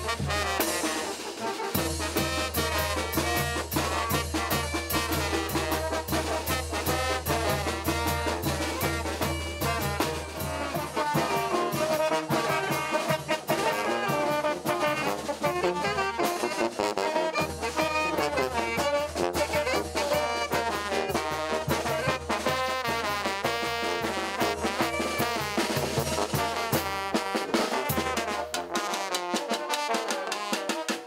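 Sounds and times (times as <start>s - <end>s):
bass drum and cymbal beat: 0.0s - 1.2s, 1.8s - 16.6s, 17.4s - 28.8s
brass band playing: 0.0s - 31.0s.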